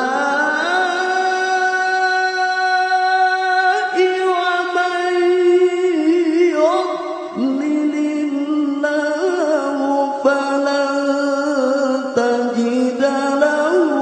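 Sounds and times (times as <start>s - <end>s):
man chanting into a microphone: 0.0s - 14.0s.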